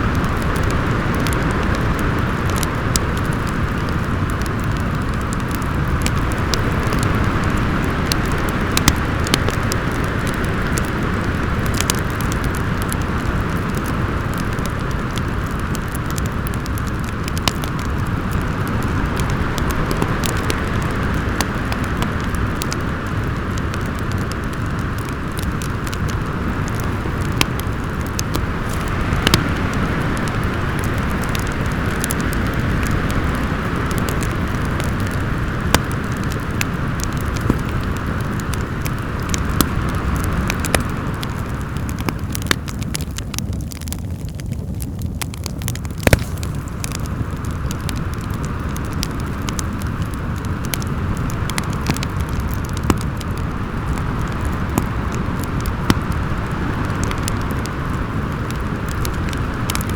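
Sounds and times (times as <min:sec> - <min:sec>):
fire crackling and popping: 0:00.0 - 0:59.9
wind howling: 0:00.0 - 0:59.9.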